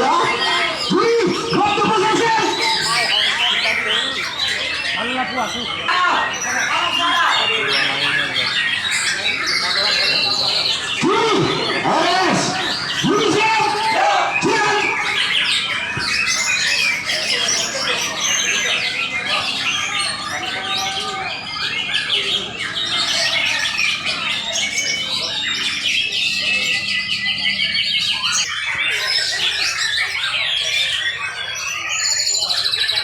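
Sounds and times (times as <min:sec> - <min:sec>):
caged songbirds singing: 0:00.0 - 0:33.0.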